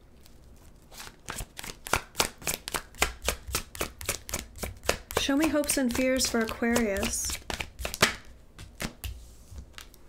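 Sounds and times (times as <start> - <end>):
cards being shuffled by hand: 0.2 - 10.0.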